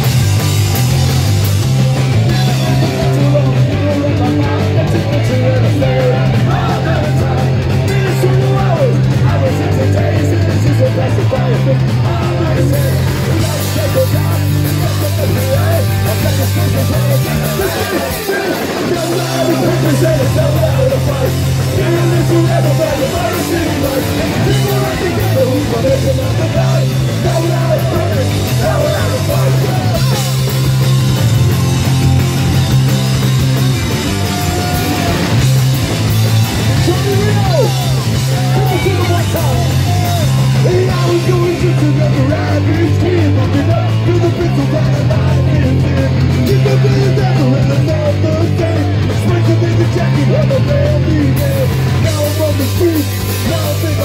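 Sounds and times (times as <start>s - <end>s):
bass guitar: 0.0s - 54.0s
distorted electric guitars: 0.0s - 54.0s
drum kit: 0.0s - 54.0s
vocals sung into microphones: 2.3s - 30.3s, 36.8s - 54.0s.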